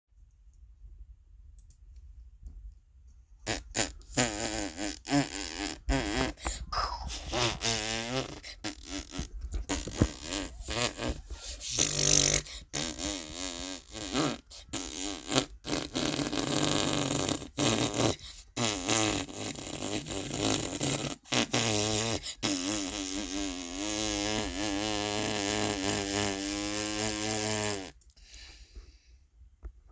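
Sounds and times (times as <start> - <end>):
fart sound effects: 3.4 - 28.0.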